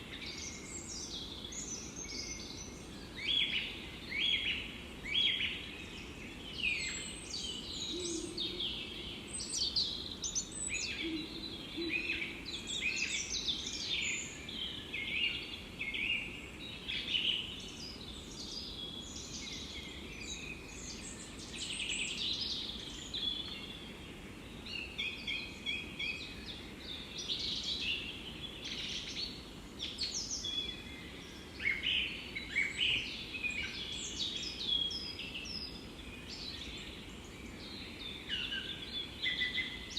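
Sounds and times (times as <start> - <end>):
birds chirping and trilling: 0.0 - 39.9
faint steady hiss: 0.0 - 39.9.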